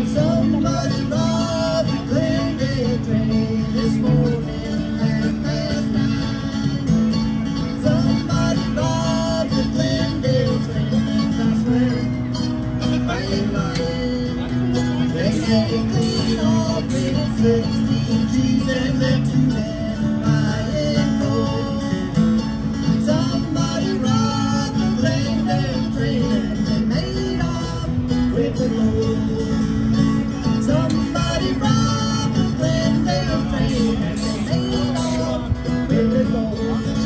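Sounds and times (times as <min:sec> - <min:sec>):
acoustic guitar strumming: 0:00.0 - 0:37.0
live country band over speakers: 0:00.0 - 0:37.0.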